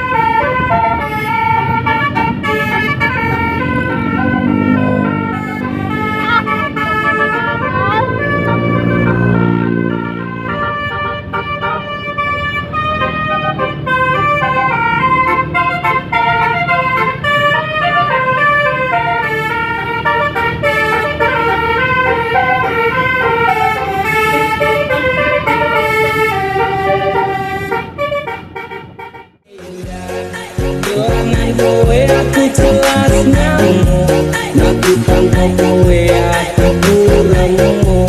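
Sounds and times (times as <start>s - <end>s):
deep horn tone: 0.0s - 38.0s
musical air horns melody: 0.0s - 38.0s.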